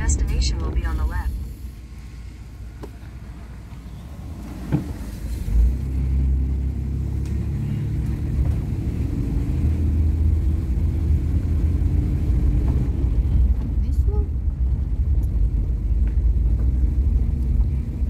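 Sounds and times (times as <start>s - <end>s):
car rumbling on gravel road: 1.6s - 18.0s.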